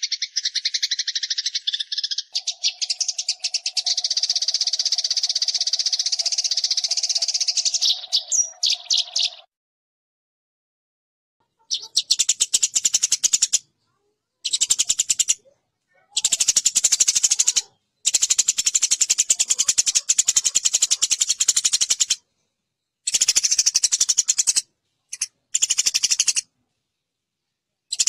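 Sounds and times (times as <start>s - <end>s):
sparrows harsh chattering: 0.0s - 9.5s, 11.4s - 28.0s.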